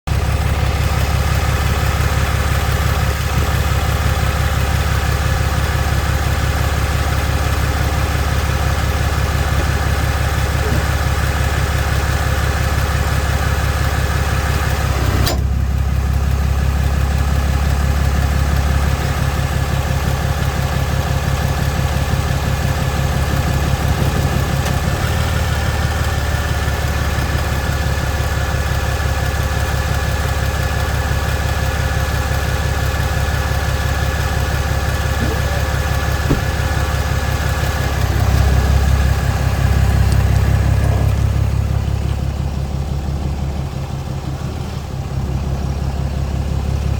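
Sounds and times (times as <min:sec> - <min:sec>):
pickup engine idling: 0:00.1 - 0:46.9.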